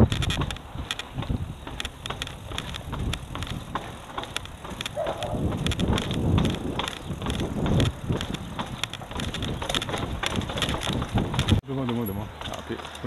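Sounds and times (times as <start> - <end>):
wind on microphone: 0.0 - 11.6
bike rattles and clicks: 0.0 - 13.0
bike tyre rumble: 0.0 - 13.0.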